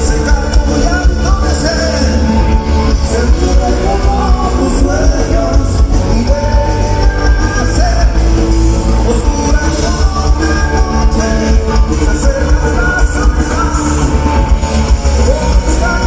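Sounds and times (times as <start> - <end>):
heavy bass: 0.0 - 16.0
live band music over speakers: 0.0 - 16.0
person singing: 0.0 - 16.0.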